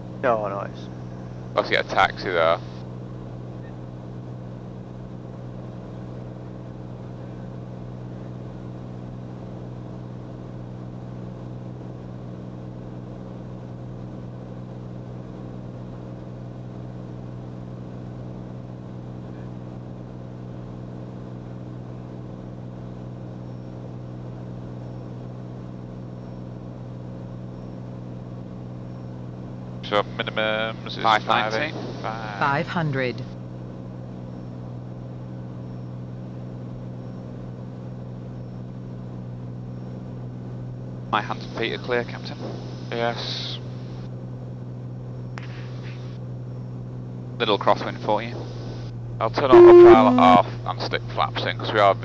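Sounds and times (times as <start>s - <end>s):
aircraft cabin engine drone: 0.0s - 52.0s.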